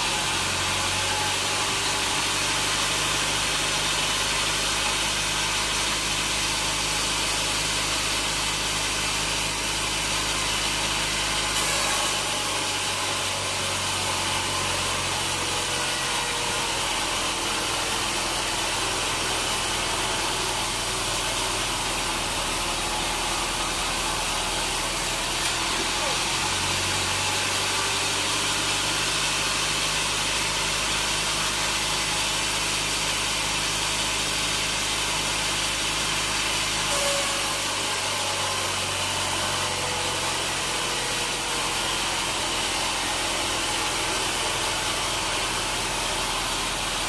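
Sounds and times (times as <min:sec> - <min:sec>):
sawmill machinery running: 0:00.0 - 0:47.0.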